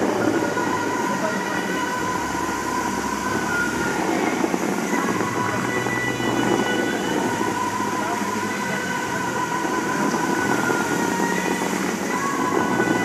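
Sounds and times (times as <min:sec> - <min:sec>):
fountain water jets spraying: 0:00.0 - 0:13.0
music over loudspeakers: 0:00.0 - 0:13.0.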